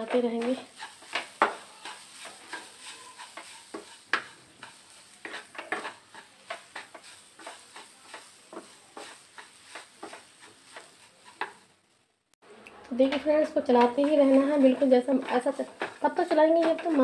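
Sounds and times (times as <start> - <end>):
wooden spatula scraping metal pan: 0.0 - 11.8, 13.0 - 17.0.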